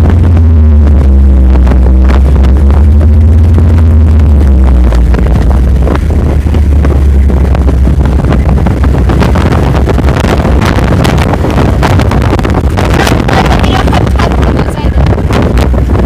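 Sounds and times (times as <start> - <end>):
sharp crackles: 0.0 - 14.4
vehicle rumble driving off-road: 0.0 - 16.0
wind buffeting microphone: 0.0 - 16.0.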